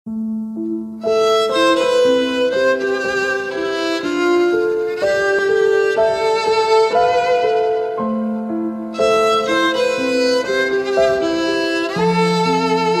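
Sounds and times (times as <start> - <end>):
violin background music: 0.4 - 13.0.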